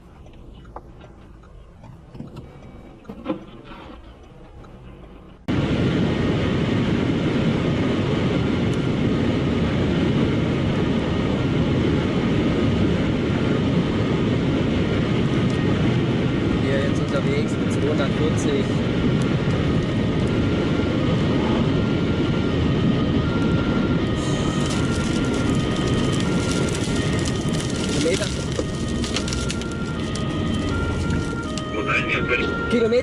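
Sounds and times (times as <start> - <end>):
vehicle road and engine noise: 0.0 - 33.0.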